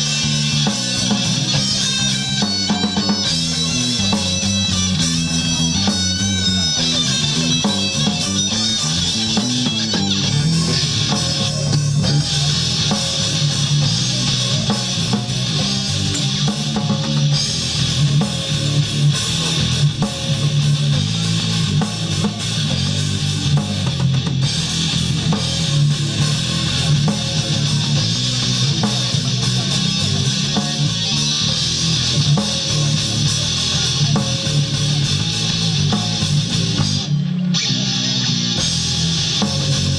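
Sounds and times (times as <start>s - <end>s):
rock band with guitars and drums: 0.0s - 39.9s.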